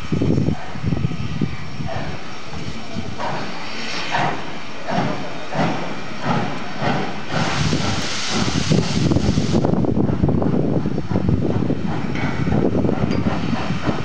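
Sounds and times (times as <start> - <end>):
loud hiss of steam: 0.0 - 14.0
steam locomotive chuffing: 0.0 - 14.0.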